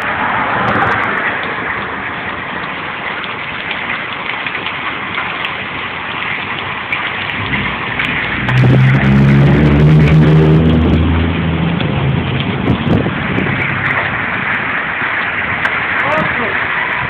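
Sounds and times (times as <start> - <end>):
hail and rain on pavement: 0.0 - 17.0.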